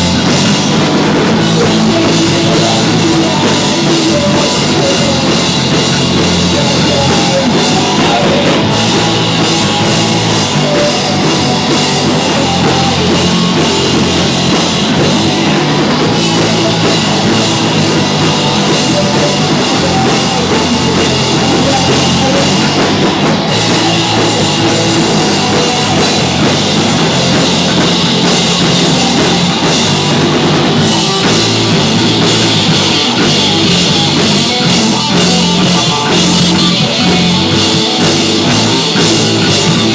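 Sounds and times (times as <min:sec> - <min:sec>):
drum kit: 0:00.0 - 0:39.9
live rock band playing: 0:00.0 - 0:39.9.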